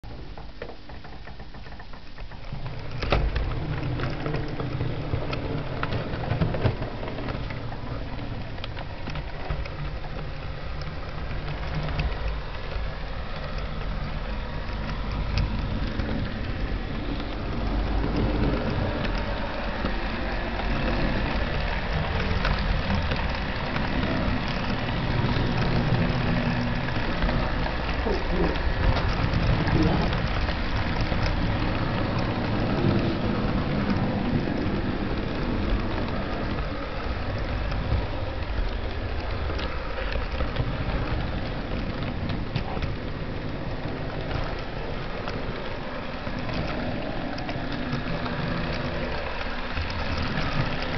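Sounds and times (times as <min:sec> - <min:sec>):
wheels clicking over track: 0:00.0 - 0:50.9
model train motor hum: 0:00.1 - 0:50.9.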